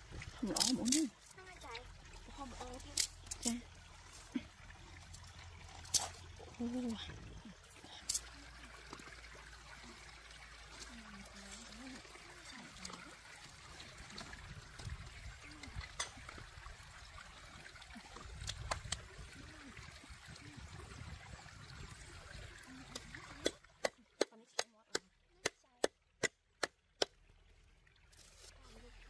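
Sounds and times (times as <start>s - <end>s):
water trickling: 0.0s - 29.0s.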